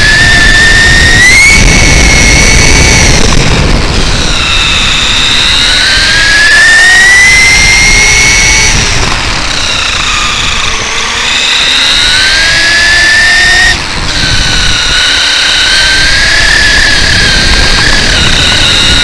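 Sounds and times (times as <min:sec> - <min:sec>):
toy truck electric motor whine: 0:00.0 - 0:19.0
tyres rumbling on asphalt: 0:00.0 - 0:19.0.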